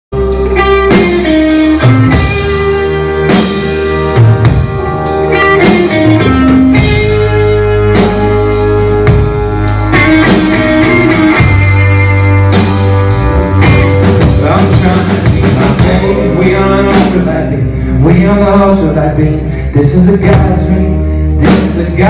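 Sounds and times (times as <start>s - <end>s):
bass notes: 0.1s - 22.0s
drum kit beat: 0.2s - 17.6s, 19.9s - 20.8s, 21.4s - 22.0s
electric guitars: 0.2s - 22.0s
keyboards: 0.2s - 22.0s.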